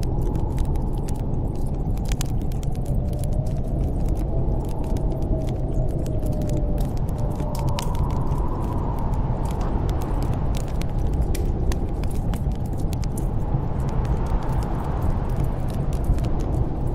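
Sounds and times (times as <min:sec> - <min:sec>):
storm wind rushing and whistling: 0:00.0 - 0:16.9
wood fire crackling: 0:00.0 - 0:16.9.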